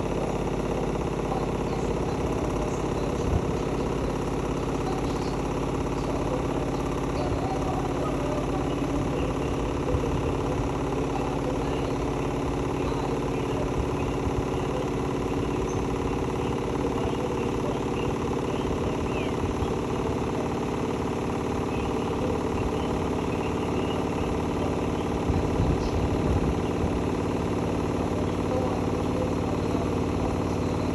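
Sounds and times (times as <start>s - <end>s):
washing machine running: 0.0s - 30.9s.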